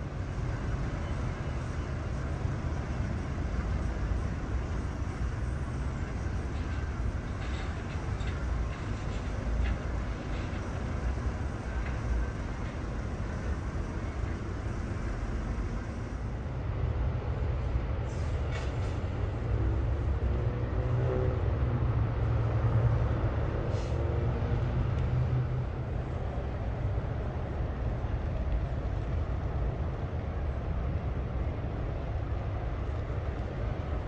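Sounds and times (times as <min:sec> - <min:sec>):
highway traffic rumble: 0:00.0 - 0:34.0.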